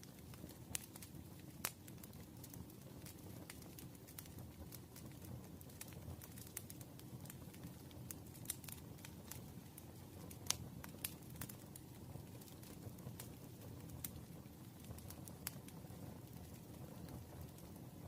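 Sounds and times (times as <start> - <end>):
campfire crackling and popping: 0.0 - 18.0
low rumble of flame: 0.0 - 18.0.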